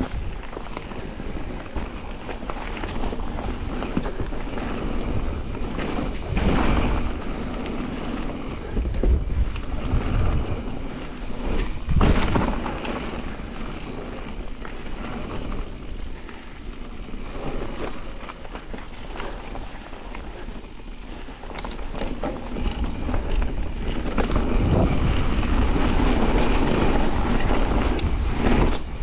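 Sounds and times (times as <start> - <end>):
wind buffeting microphone: 0.0 - 18.2, 22.6 - 29.0
bike tyres rattling on gravel: 0.0 - 29.0.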